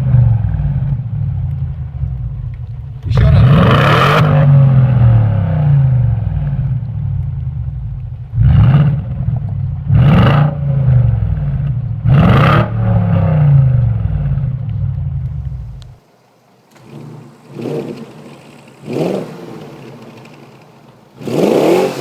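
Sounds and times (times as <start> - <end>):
car engine revving through exhaust: 0.0 - 16.0, 16.8 - 22.0.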